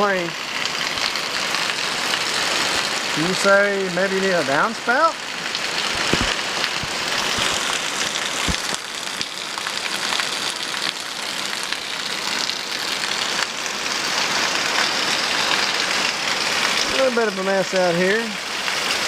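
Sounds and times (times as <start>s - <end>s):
heavy rain on metal roof: 0.0s - 19.0s.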